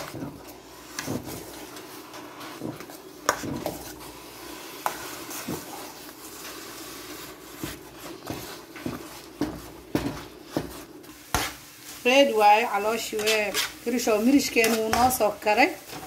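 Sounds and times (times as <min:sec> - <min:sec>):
spoon stirring thick porridge: 0:00.0 - 0:12.0, 0:12.9 - 0:16.0.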